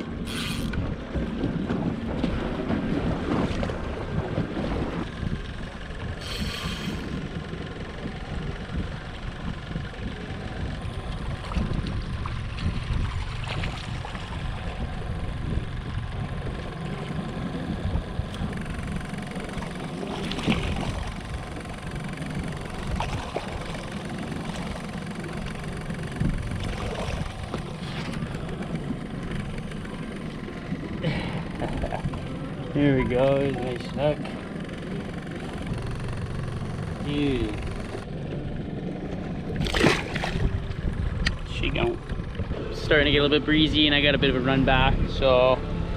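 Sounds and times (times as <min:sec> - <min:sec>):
motorboat engine running: 0:00.0 - 0:45.9.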